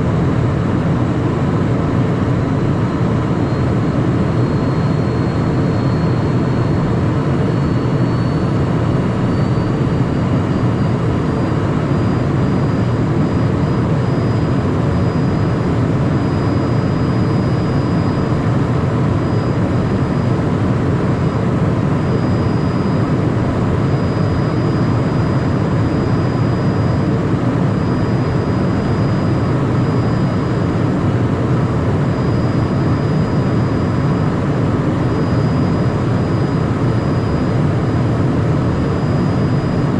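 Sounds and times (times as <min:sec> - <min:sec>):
faint high whine: 0:00.0 - 0:39.9
jet cabin noise: 0:00.0 - 0:39.9.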